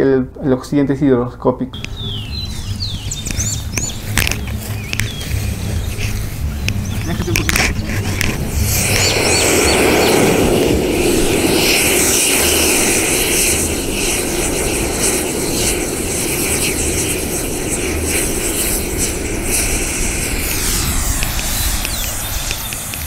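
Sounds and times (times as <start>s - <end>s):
rocket propellant burning hiss: 1.8s - 23.0s.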